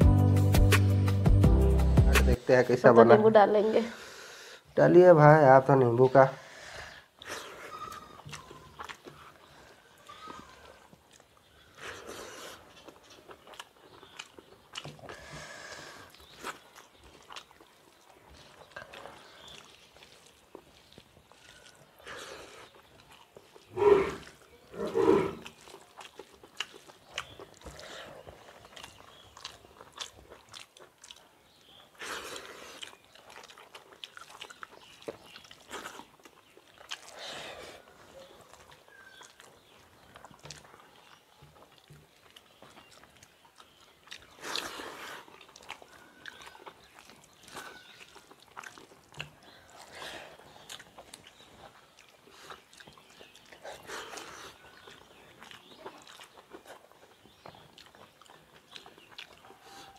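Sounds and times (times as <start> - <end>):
wet chewing and lip-smacking: 7.0 - 24.7, 25.4 - 59.9.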